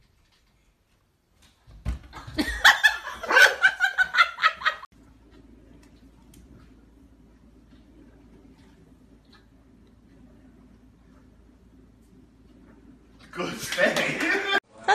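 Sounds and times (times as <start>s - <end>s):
faint low hum: 0.0s - 14.9s.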